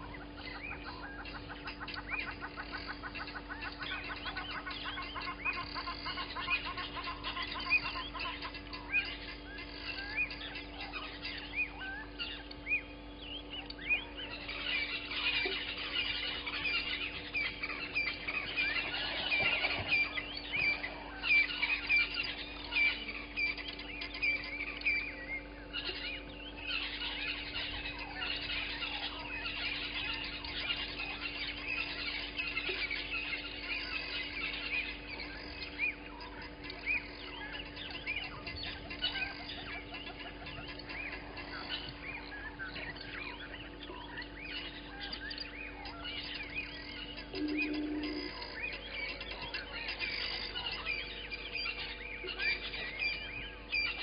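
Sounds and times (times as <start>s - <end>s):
birds chirping and whistling: 0.0s - 54.0s.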